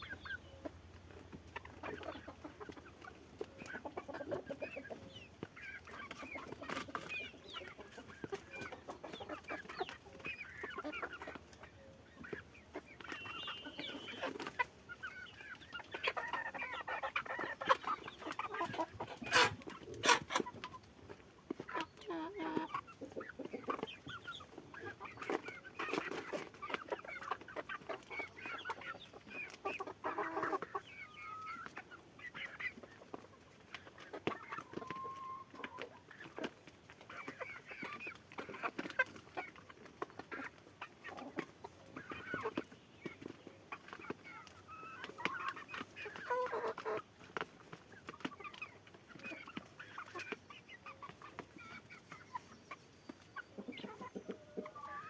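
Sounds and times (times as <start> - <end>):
chickens clucking and peeping: 0.0 - 55.0.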